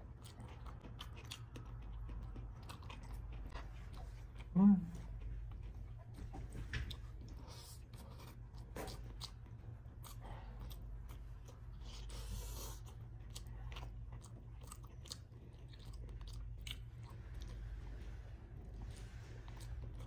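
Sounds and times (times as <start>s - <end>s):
person chewing food: 0.0s - 20.0s
steady low hum: 0.0s - 20.0s.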